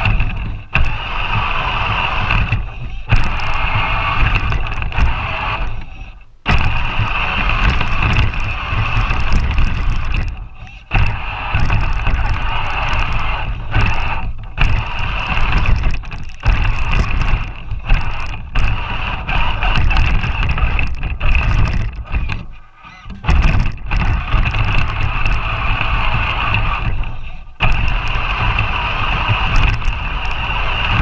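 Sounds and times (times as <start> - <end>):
electric motor whine: 0.0 - 31.0.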